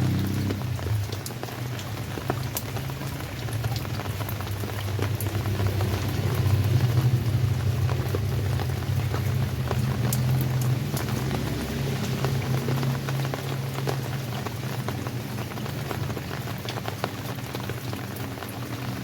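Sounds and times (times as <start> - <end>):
raindrops clicking on a surface: 0.0 - 19.0.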